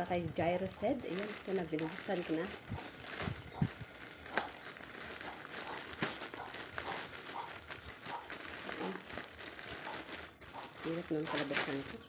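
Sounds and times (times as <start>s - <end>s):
plastic mailer bag rustling: 0.0s - 12.0s
sharp plastic crackles: 0.0s - 12.0s.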